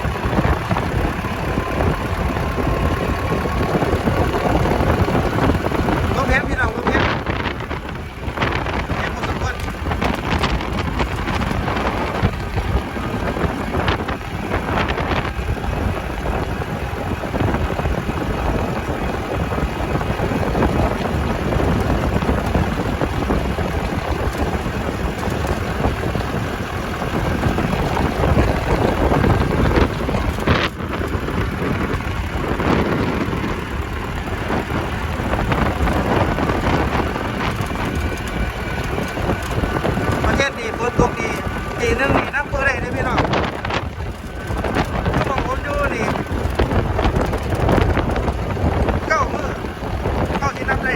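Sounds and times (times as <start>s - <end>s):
strong wind gusting on microphone: 0.0s - 50.9s.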